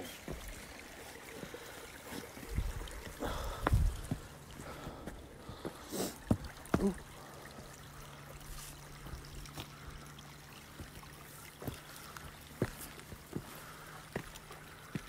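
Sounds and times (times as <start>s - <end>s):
spring water trickling: 0.0s - 15.0s
low steady hum: 0.3s - 15.0s.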